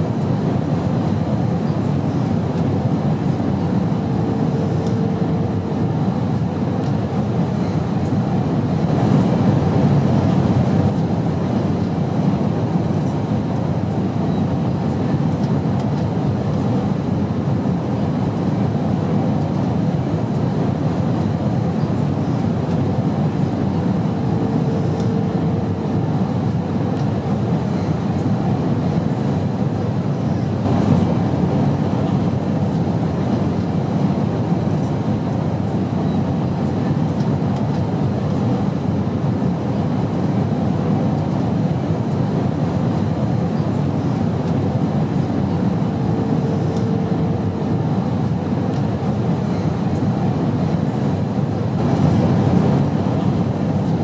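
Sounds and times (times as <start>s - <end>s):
airplane engine drone: 0.0s - 54.0s.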